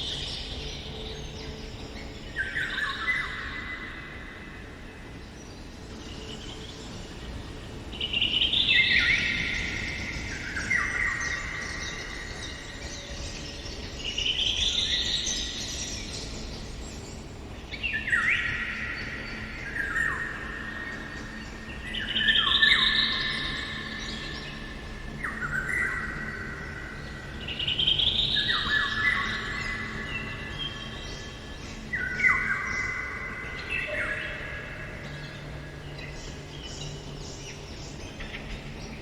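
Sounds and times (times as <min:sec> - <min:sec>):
faint outdoor background: 0:00.0 - 0:39.0
songbird singing: 0:00.0 - 0:39.0.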